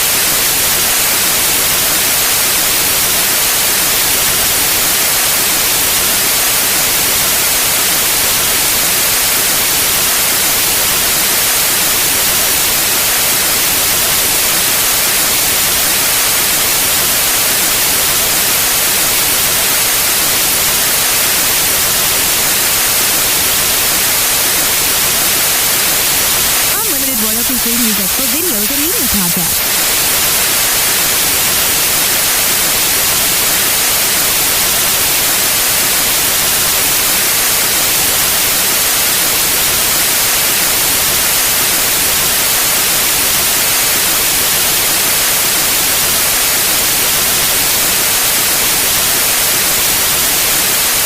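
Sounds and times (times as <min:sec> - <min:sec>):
white noise hiss: 0:00.0 - 0:51.0.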